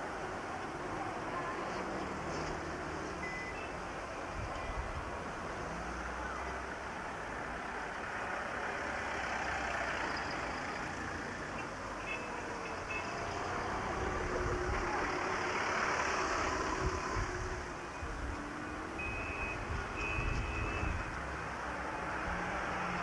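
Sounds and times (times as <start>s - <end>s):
cars driving slowly past: 0.0s - 23.0s.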